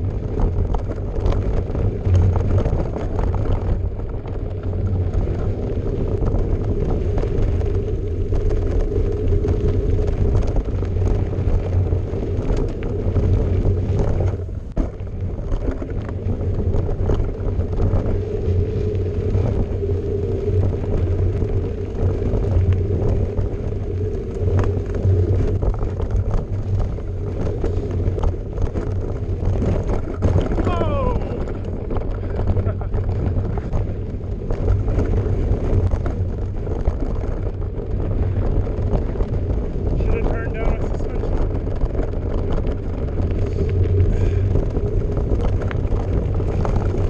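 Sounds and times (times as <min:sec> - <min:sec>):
bike knocks and rattles: 0:00.0 - 0:19.7, 0:20.7 - 0:47.0
bike tyres rumbling on trail: 0:00.0 - 0:47.0.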